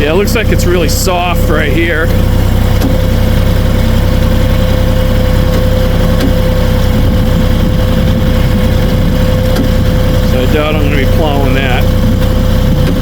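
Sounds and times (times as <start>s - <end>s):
steady whine: 0.0s - 13.0s
tractor diesel engine running: 0.0s - 13.0s.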